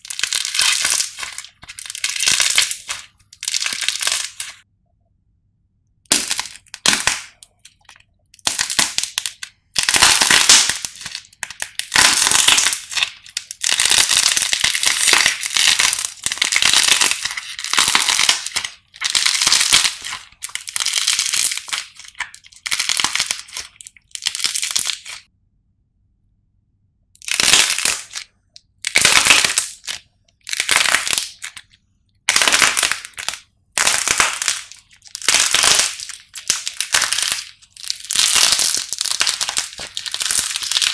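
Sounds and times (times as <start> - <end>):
clay crust cracking and crunching: 0.0 - 4.6, 6.1 - 25.3, 27.2 - 40.9.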